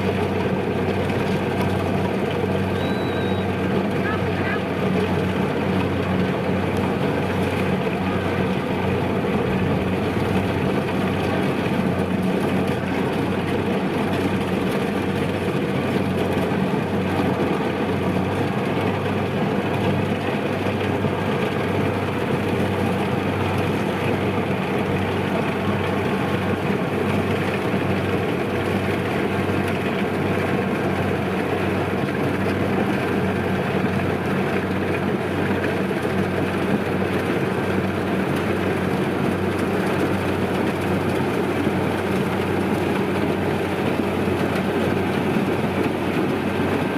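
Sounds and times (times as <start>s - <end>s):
combine harvester engine humming: 0.0s - 46.9s.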